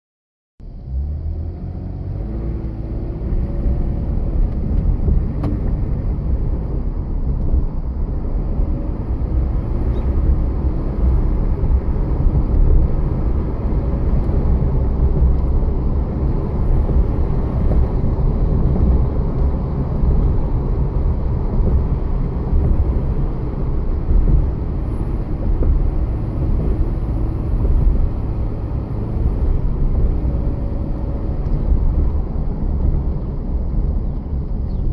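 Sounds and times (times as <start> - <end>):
car engine running: 2.2 - 34.9.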